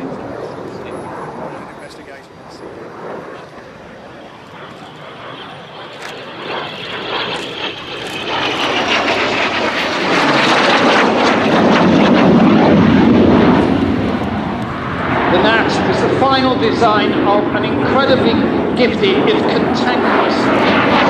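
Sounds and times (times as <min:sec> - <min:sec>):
jet passing overhead: 0:00.0 - 0:21.0.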